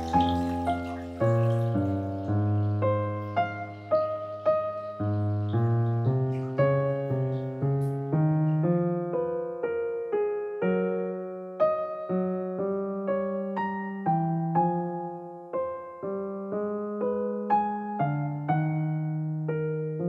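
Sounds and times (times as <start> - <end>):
slow gentle piano melody: 0.0 - 20.0.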